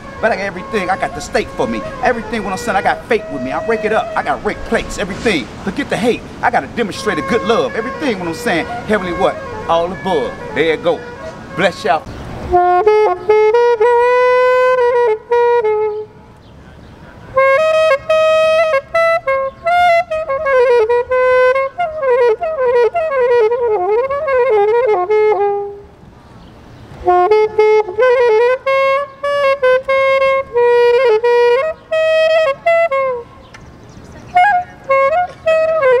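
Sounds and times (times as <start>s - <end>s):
alto saxophone solo: 0.0s - 26.1s, 26.9s - 33.5s, 34.2s - 36.0s.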